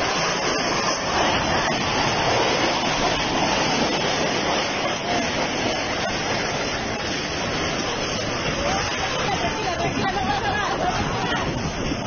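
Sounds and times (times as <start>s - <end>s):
loud rushing storm wind: 0.0s - 12.0s.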